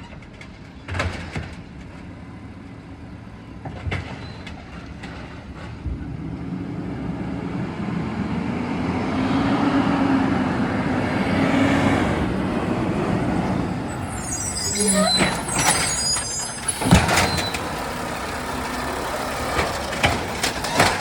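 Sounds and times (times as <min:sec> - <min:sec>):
truck diesel engine: 0:00.1 - 0:21.0.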